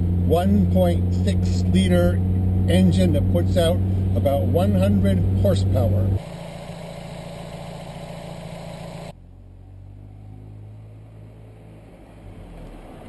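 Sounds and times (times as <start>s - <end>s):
car engine running: 0.0s - 12.2s
road and wind noise: 0.0s - 13.0s.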